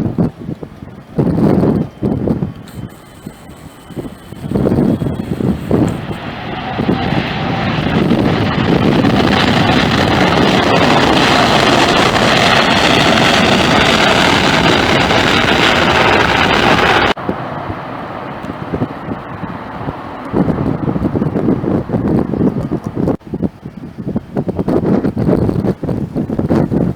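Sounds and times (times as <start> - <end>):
jet airliner roar overhead: 0.0 - 26.9.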